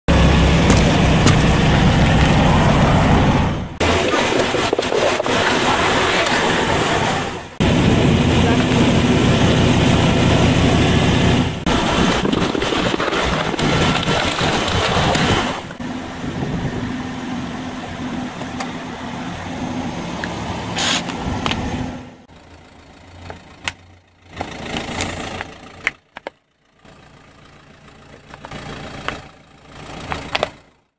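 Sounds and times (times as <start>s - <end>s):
car engine running: 0.1s - 19.8s, 21.1s - 30.9s.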